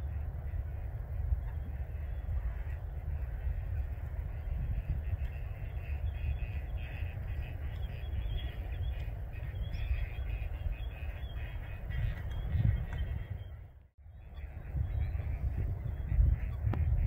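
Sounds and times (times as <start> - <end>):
birds calling: 0.0 - 17.0
wind rumbling on microphone: 0.0 - 17.0.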